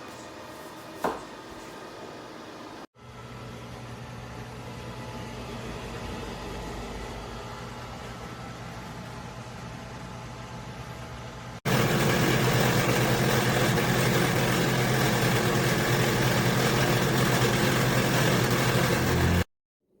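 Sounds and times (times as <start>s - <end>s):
air fryer fan whirring hum: 0.0s - 19.4s.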